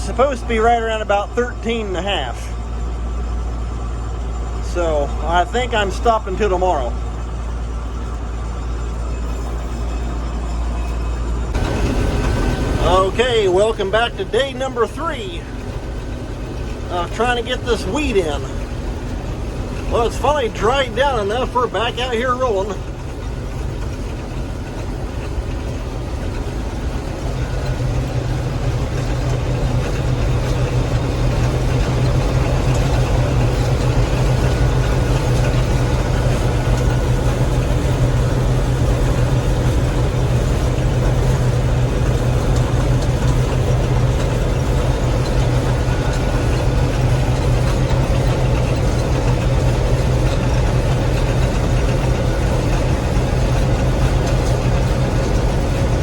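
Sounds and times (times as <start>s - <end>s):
combine engine and machinery drone: 0.0s - 56.0s.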